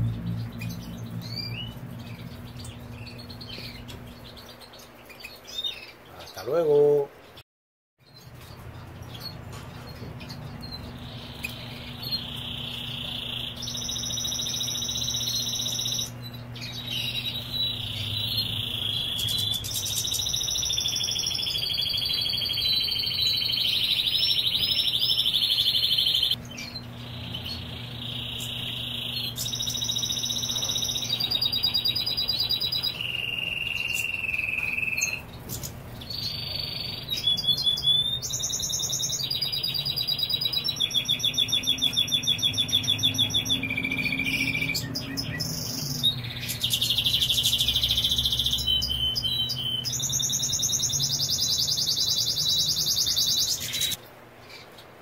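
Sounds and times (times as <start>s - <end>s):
goldfinch singing: 0.0s - 7.4s, 8.1s - 54.6s.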